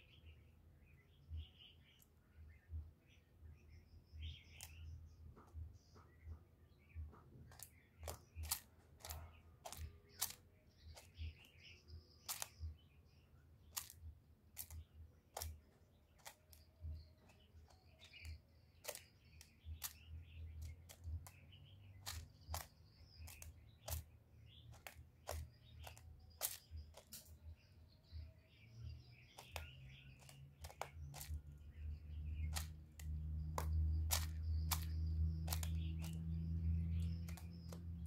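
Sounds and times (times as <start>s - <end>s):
dove preening clicks: 4.5s - 6.3s, 7.0s - 12.7s, 13.7s - 27.4s, 28.8s - 38.0s.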